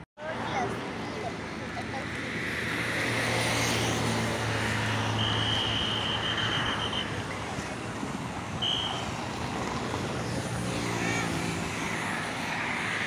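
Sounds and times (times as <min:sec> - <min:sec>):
highway traffic hum: 0:00.0 - 0:13.0.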